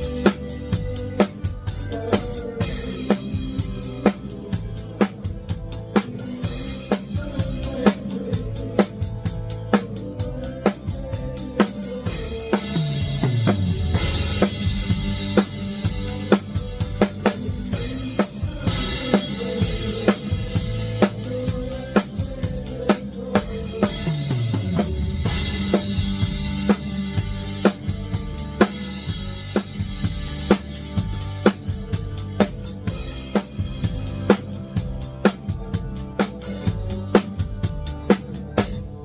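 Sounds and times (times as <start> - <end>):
country band playing: 0.0 - 39.0
drum kit beat: 0.0 - 39.0.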